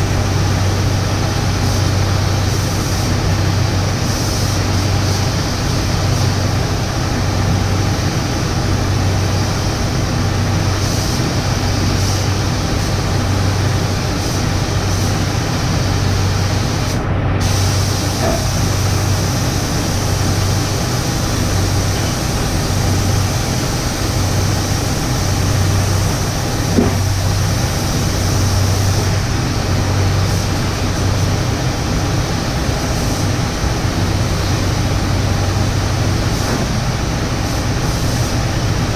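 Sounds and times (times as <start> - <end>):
paint spray gun hissing: 0.1 - 8.5, 9.2 - 38.9.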